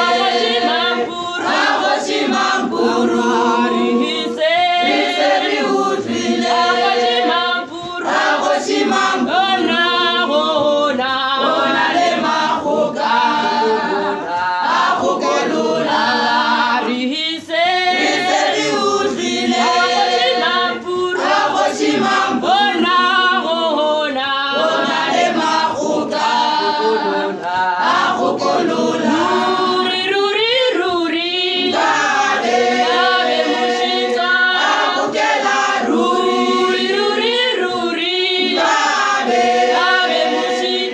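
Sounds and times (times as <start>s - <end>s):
female choir singing: 0.0s - 40.9s.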